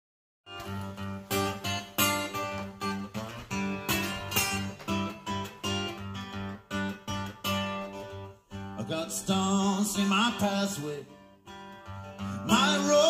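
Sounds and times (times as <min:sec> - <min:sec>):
acoustic guitar playing blues: 0:00.5 - 0:13.0.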